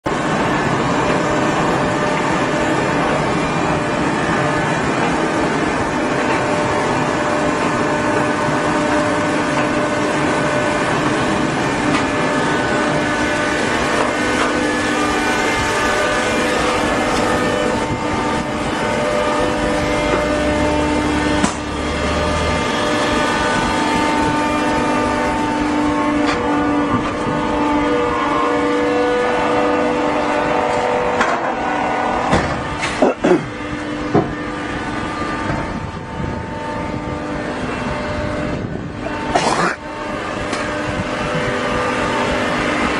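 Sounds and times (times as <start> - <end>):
baler mechanical drone: 0.0 - 42.9.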